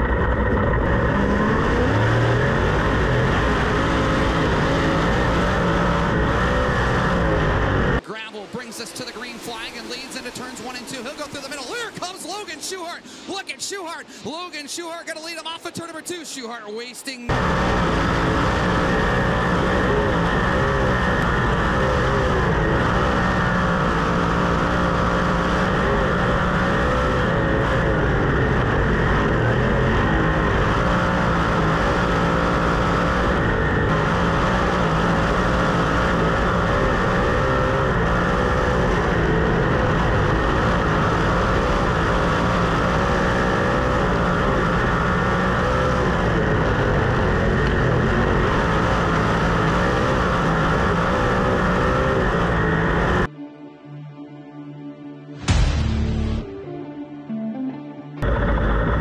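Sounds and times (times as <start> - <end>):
race car engines lapping: 0.0 - 53.3, 58.2 - 59.0.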